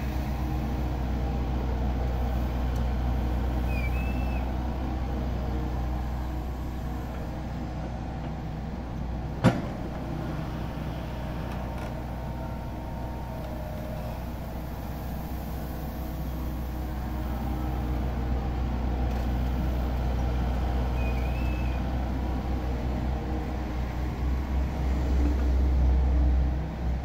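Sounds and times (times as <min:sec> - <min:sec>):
low vehicle rumble: 0:00.0 - 0:27.0.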